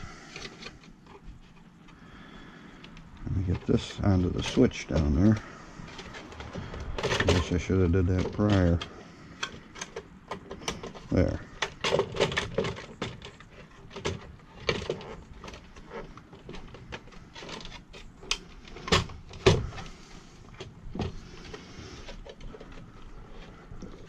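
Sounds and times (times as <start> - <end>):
plastic parts clicking and knocking: 0.1 - 24.0.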